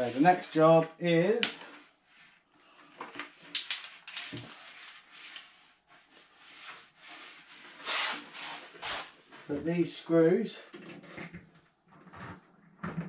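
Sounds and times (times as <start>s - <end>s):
rustling and scraping: 0.0s - 9.7s, 10.7s - 13.0s.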